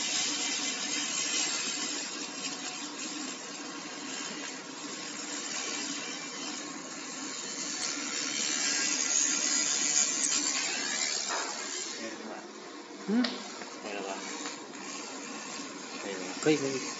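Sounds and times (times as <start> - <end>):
laser machine hissing: 0.0 - 16.9.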